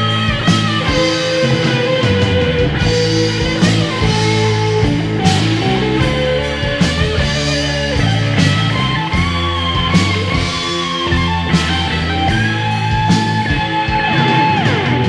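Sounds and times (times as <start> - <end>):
heavy metal music from vinyl: 0.0 - 15.0.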